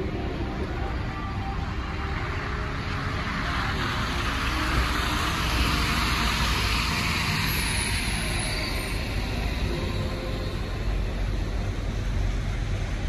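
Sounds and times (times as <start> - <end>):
road and engine noise: 0.0 - 13.0
traffic hiss: 0.0 - 13.0.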